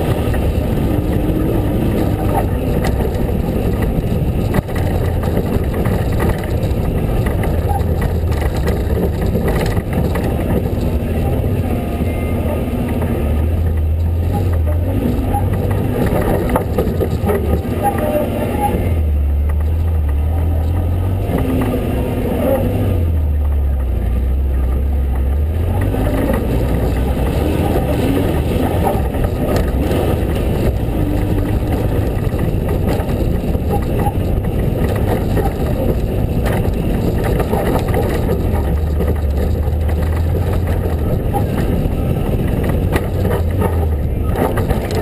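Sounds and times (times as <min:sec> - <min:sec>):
truck engine under load: 0:00.0 - 0:45.0
wind and road noise: 0:00.0 - 0:45.0.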